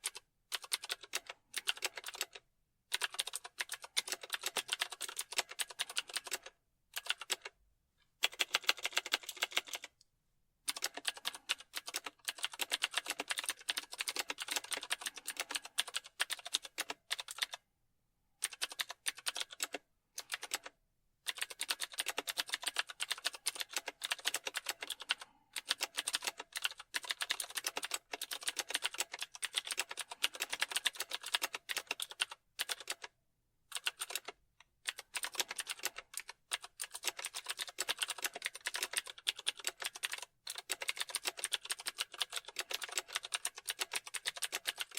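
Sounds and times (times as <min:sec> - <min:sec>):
keyboard typing: 0:00.0 - 0:07.6, 0:08.2 - 0:10.0, 0:10.7 - 0:17.6, 0:18.4 - 0:44.9.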